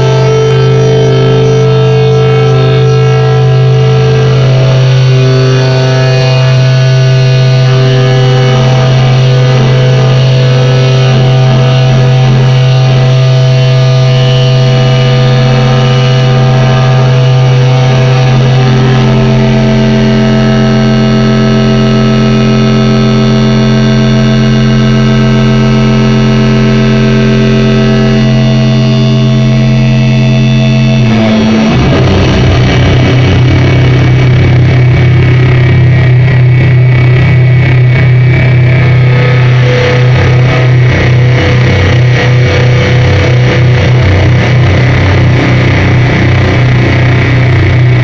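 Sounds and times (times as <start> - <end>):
distorted guitar drone music: 0.0 - 48.0
low drone: 0.0 - 48.0.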